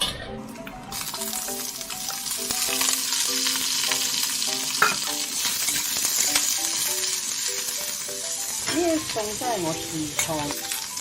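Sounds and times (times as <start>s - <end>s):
food sizzling in a hot pan: 0.9s - 11.0s.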